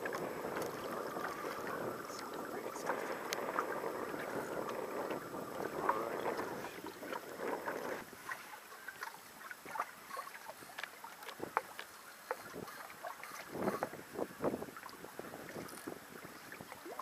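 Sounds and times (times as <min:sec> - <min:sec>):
waves lapping against boat hull: 0:00.0 - 0:17.0.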